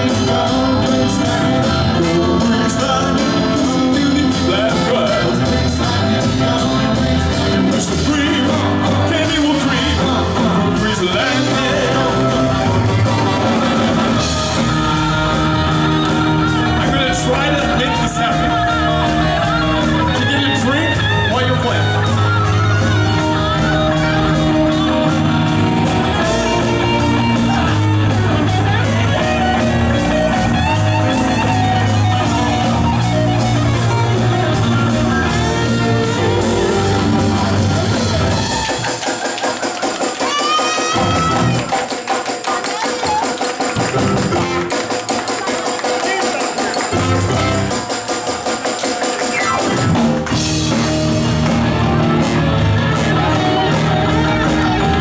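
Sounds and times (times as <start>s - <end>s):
electric guitar: 0.0s - 38.9s, 43.7s - 45.5s, 46.8s - 47.9s, 49.1s - 55.0s
keyboard: 0.0s - 55.0s
steady drum beat: 0.0s - 55.0s.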